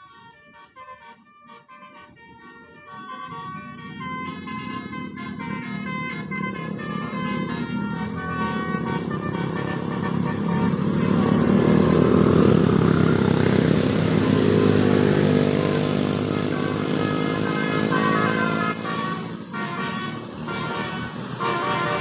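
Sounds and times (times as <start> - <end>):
bus engine passing: 0.0 - 22.0
bus horn melody: 0.0 - 22.0.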